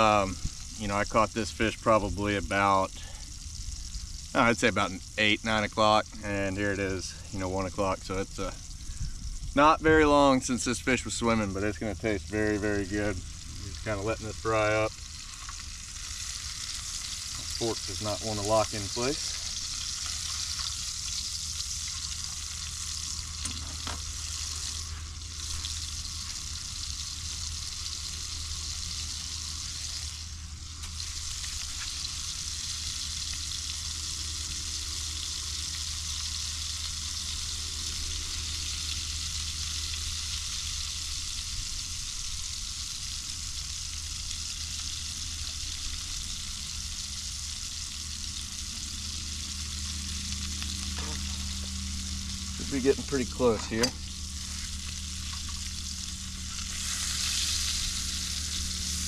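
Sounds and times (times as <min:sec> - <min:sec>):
fish fillet sizzling in oil: 0:00.0 - 0:59.0.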